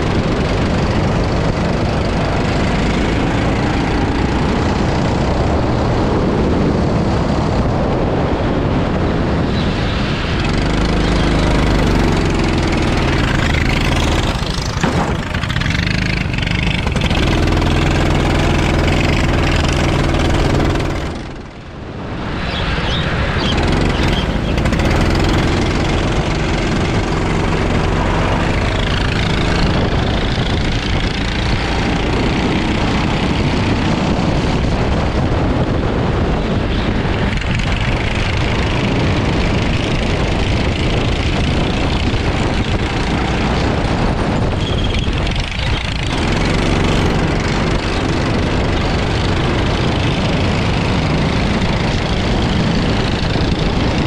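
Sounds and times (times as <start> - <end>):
go-kart engine running hard: 0.0 - 54.0
wind rushing: 0.0 - 54.0.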